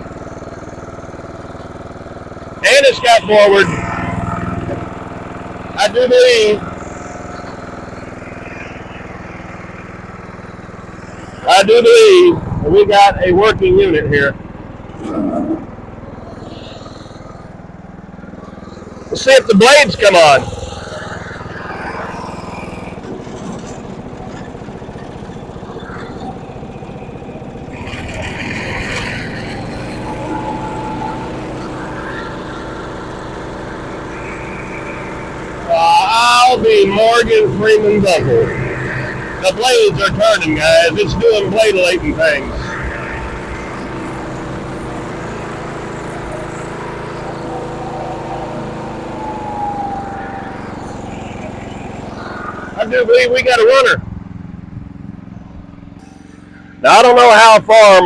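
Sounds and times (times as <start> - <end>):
riding mower engine running: 0.0 - 58.0
thin high whine: 2.6 - 58.0.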